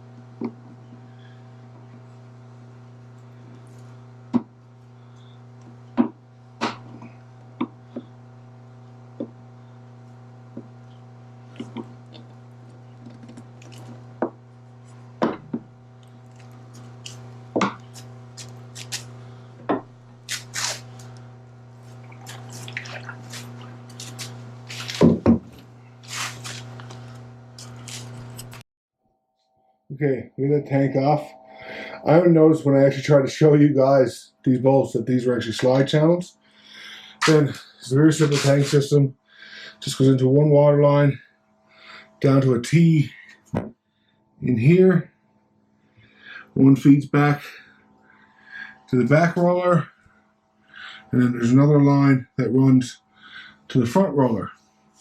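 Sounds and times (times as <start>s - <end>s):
low electrical hum: 0.0s - 28.6s, 29.9s - 55.0s.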